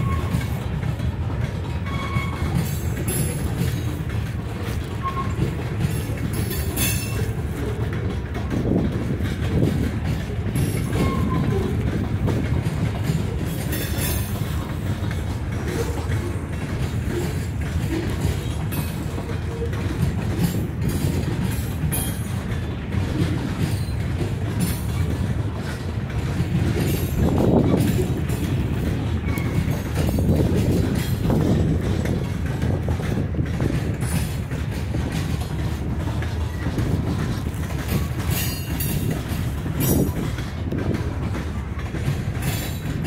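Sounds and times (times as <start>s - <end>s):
freight train rumbling past: 0.0s - 43.0s
wheels clicking over rail joints: 0.0s - 43.0s.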